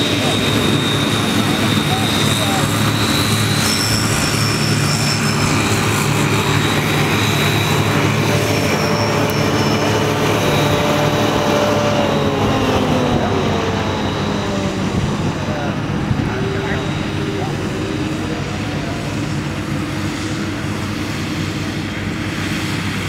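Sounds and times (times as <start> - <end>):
high mower whine: 0.0 - 23.0
tractor engine drone: 0.0 - 23.0.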